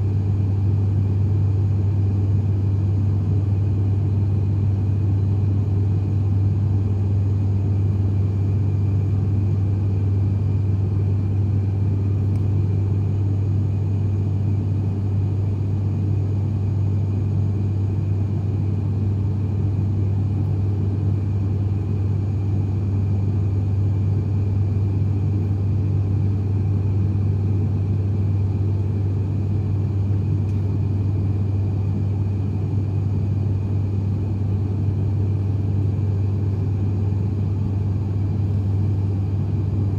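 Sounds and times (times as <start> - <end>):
turboprop engine drone: 0.0 - 39.9.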